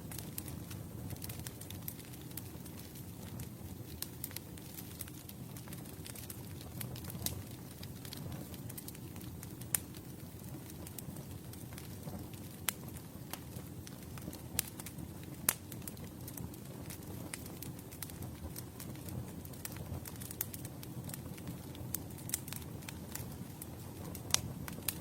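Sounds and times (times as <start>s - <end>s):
campfire crackling: 0.0s - 25.0s
sharp fire pops: 0.1s - 25.0s.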